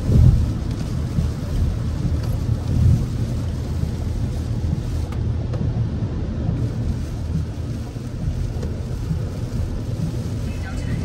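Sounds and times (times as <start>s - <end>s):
rain on car: 0.0s - 11.0s
tyres rumbling on wet road: 0.0s - 11.0s.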